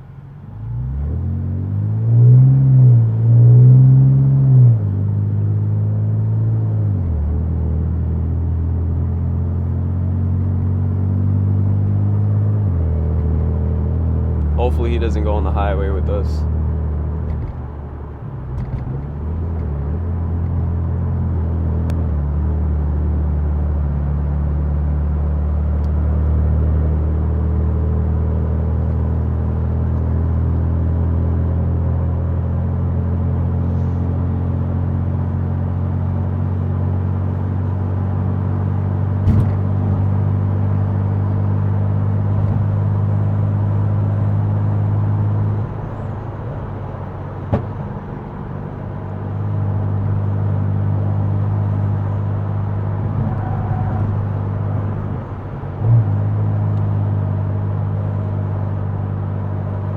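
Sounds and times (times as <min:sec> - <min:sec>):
car engine drone inside car: 0:00.0 - 0:59.9.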